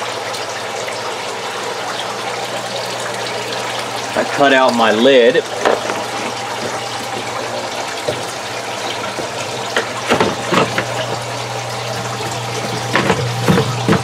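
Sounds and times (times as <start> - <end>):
pump hum: 0.0 - 14.0
water running and splashing: 0.0 - 14.0.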